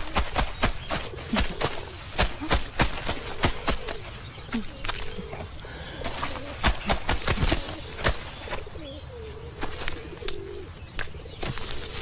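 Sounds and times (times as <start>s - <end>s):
birds cooing: 0.0s - 12.0s.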